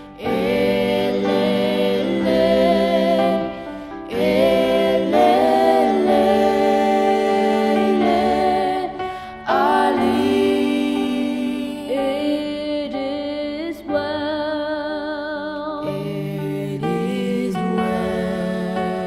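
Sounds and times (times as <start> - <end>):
two people singing a hymn: 0.0 - 19.0.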